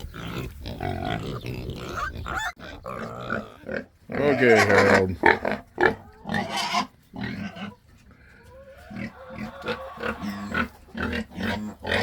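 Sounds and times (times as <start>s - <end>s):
pigs grunting and oinking: 0.0s - 12.0s.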